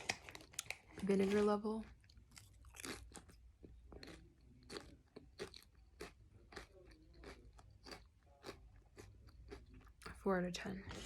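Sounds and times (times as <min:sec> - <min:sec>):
potato crisps being chewed: 0:00.0 - 0:10.3.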